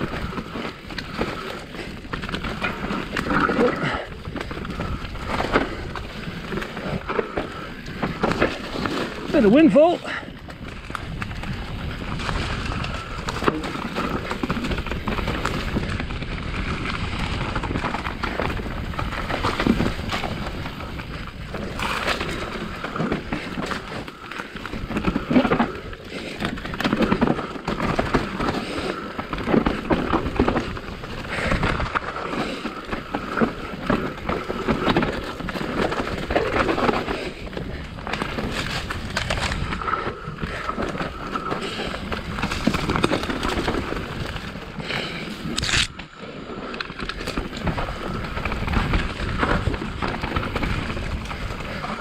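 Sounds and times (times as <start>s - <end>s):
bike tyres rumbling on dirt: 0.0s - 52.0s.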